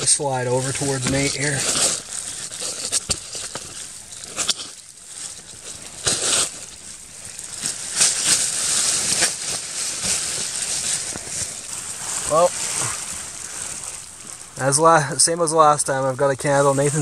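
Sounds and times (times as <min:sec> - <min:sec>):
sleeping bag fabric rustling: 0:00.0 - 0:15.8.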